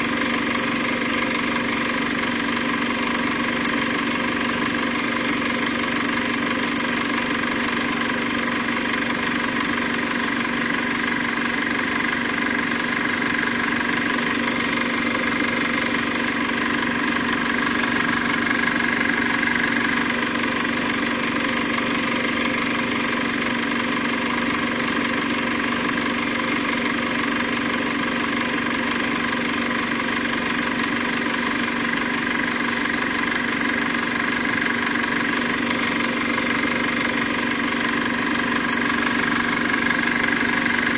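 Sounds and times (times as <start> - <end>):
machine running with fast rattle: 0.0 - 40.9.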